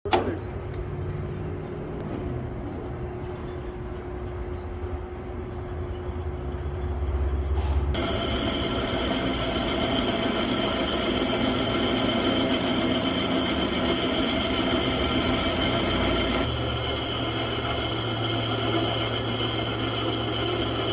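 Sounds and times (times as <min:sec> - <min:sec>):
drill press motor humming and whining: 0:03.9 - 0:20.9.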